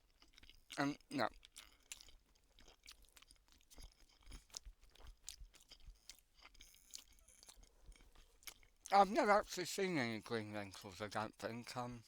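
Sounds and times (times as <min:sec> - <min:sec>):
person chewing: 0:00.0 - 0:09.3, 0:10.0 - 0:11.8.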